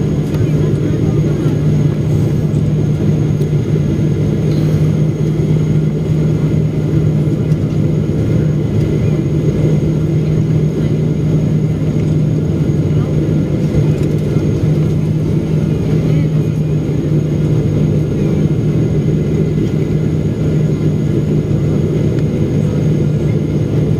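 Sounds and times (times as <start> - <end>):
airplane cabin engine drone: 0.0 - 23.9.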